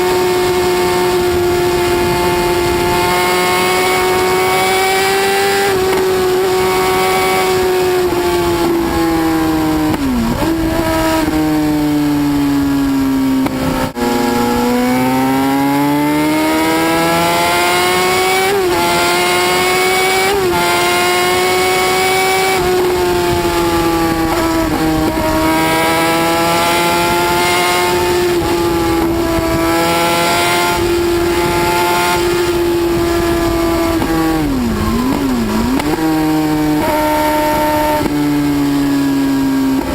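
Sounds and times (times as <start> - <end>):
high-revving motorcycle engine: 0.0 - 39.9.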